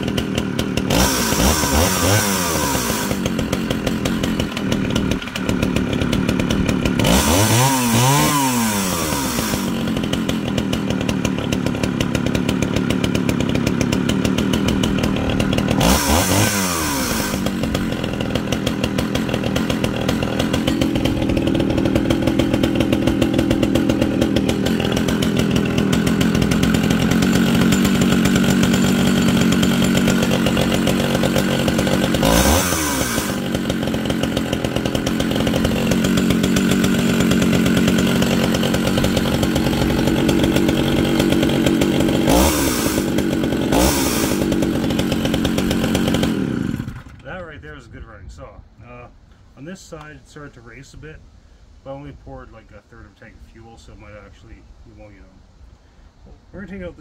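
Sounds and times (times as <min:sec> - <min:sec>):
chainsaw idling and revving: 0:00.0 - 0:47.7.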